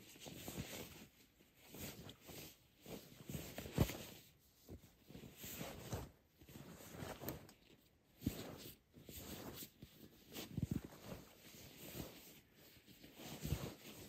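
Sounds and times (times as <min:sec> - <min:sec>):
camping gear rustling: 0:00.0 - 0:14.0.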